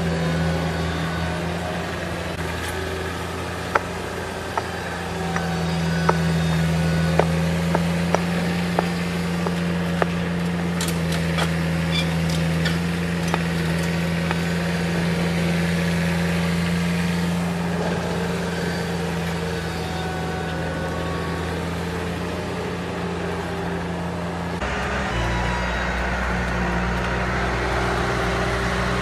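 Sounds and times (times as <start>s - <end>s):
different engine running: 0.0s - 29.0s
machine engine humming: 0.0s - 29.0s.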